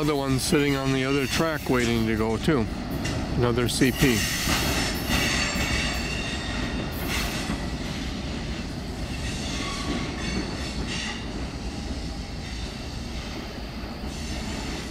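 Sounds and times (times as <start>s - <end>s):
train cars rumbling on track: 0.0s - 14.9s.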